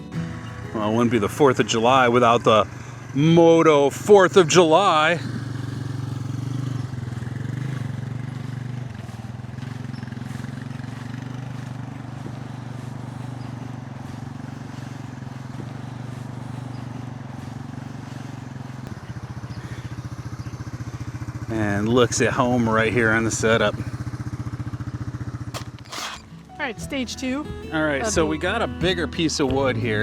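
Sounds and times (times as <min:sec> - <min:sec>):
small gasoline engine idling: 0:00.1 - 0:30.0.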